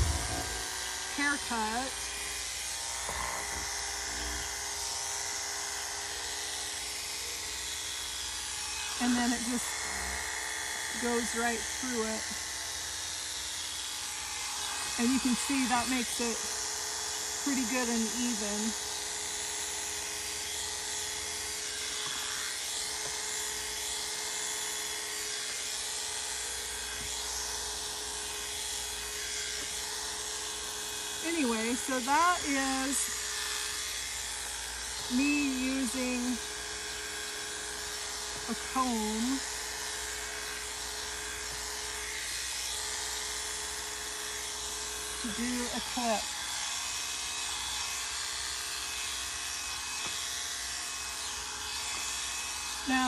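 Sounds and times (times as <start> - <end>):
electric clippers buzzing: 0.0 - 53.0.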